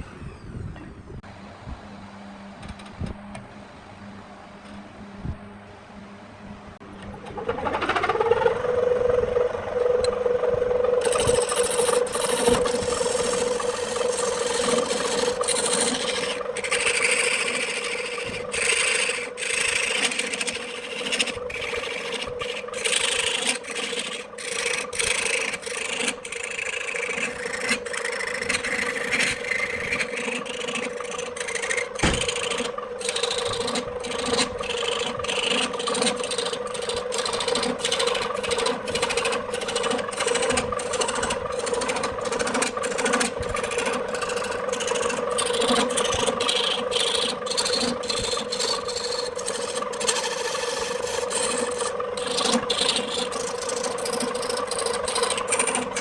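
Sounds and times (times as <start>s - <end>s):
wood lathe motor whine: 0.0s - 1.2s, 6.8s - 56.0s
tool scraping spinning wood: 6.8s - 56.0s.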